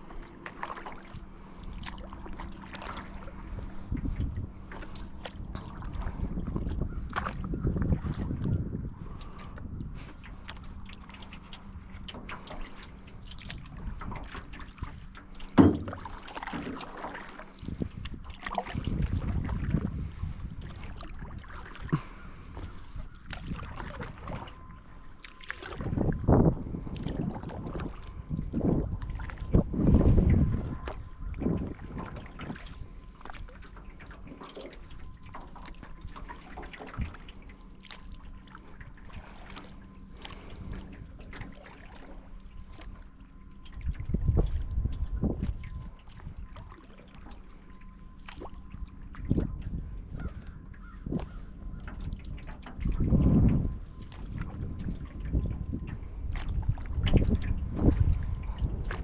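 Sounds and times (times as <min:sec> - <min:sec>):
paddle strokes splashing: 0:00.0 - 0:26.2, 0:26.8 - 0:59.0
water trickling off paddle: 0:00.0 - 0:59.0.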